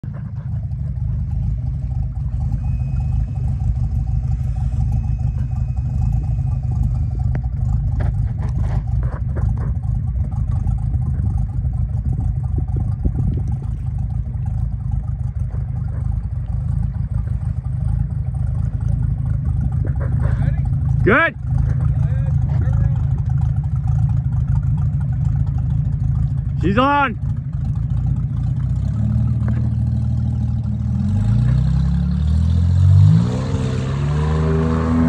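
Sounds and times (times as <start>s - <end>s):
boat engine idling: 0.0s - 31.6s.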